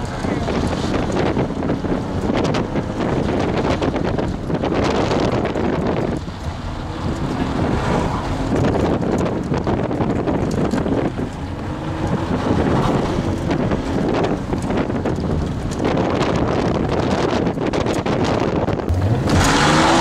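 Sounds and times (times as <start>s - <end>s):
car engine revving: 0.0s - 20.0s
wind noise on microphone: 0.0s - 20.0s.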